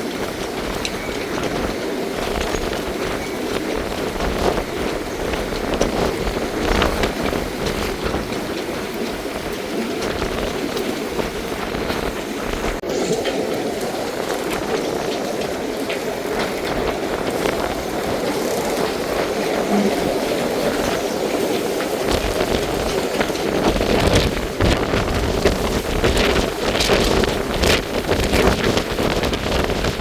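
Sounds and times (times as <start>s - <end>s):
storm wind buffeting microphone: 0.0s - 30.0s
waves washing: 0.0s - 30.0s.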